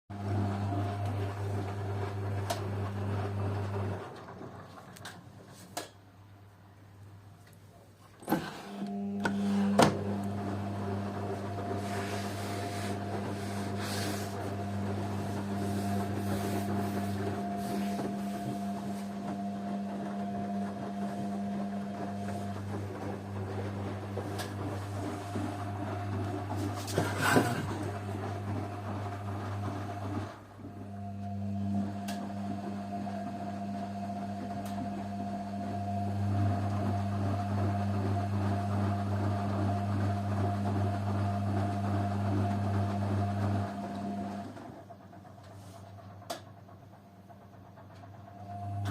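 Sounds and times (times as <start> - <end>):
washing machine motor hum: 0.1 - 48.9.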